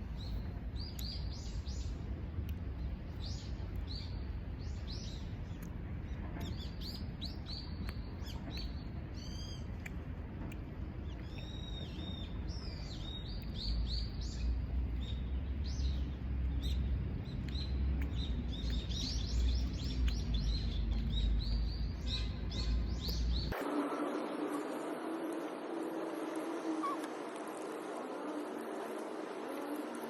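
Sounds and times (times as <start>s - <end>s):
low background rumble: 0.0s - 30.0s
small birds chirping: 0.1s - 24.3s.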